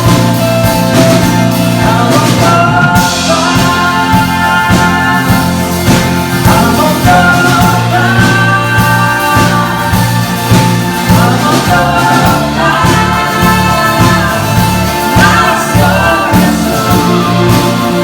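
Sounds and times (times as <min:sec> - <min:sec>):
live band music: 0:00.0 - 0:18.0
steady drum beat: 0:00.0 - 0:18.0
voices singing: 0:00.0 - 0:18.0.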